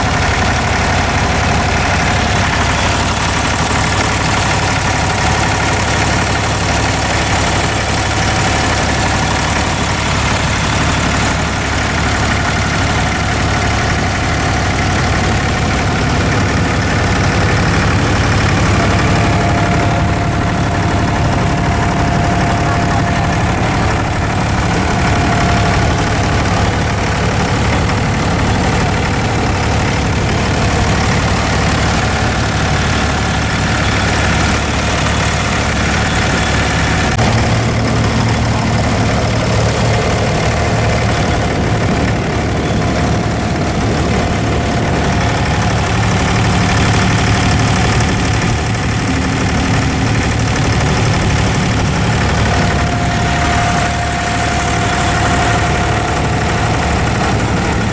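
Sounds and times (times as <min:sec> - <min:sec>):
diesel engine rumbling: 0:00.0 - 0:57.9.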